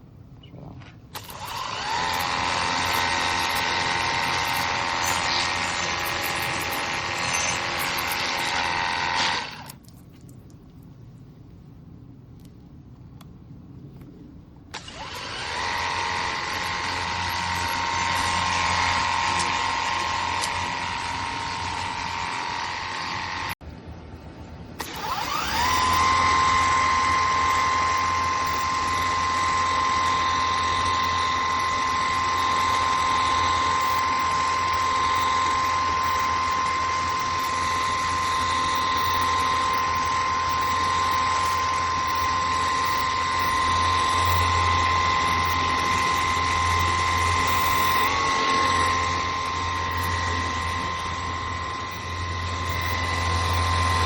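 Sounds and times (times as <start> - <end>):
low hum: 0.0 - 54.0
pressure washer motor whine: 1.1 - 9.8, 14.7 - 54.0.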